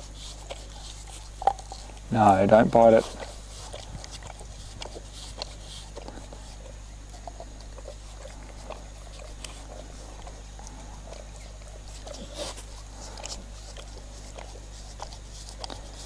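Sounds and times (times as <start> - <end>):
dog licking and slurping: 0.0 - 16.0.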